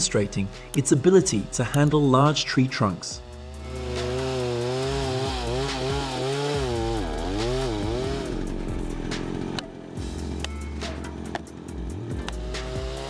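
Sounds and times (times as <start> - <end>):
chainsaw cutting tree: 0.0 - 13.0.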